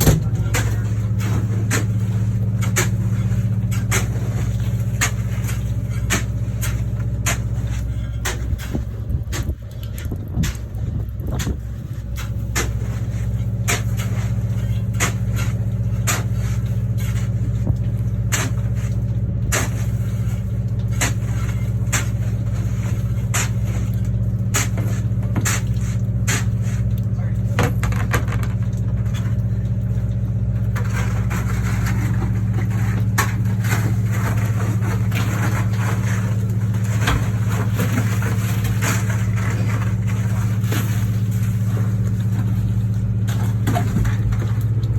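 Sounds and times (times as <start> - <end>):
engine idling hum: 0.0 - 44.9.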